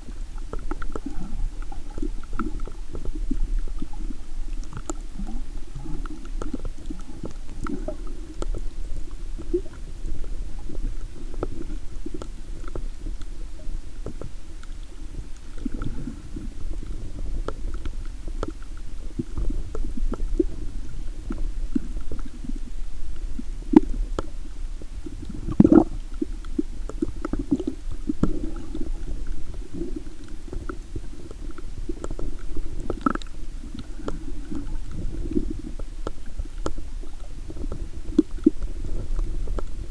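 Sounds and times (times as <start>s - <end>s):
small underwater clicks and knocks: 0.0s - 39.9s
underwater rumbling water: 0.0s - 39.9s.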